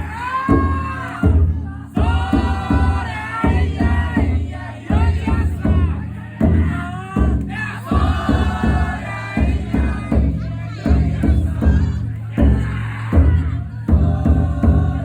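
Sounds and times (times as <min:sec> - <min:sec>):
big drum heavy strikes: 0:00.0 - 0:15.0
crowd shouting and chanting: 0:00.0 - 0:15.0.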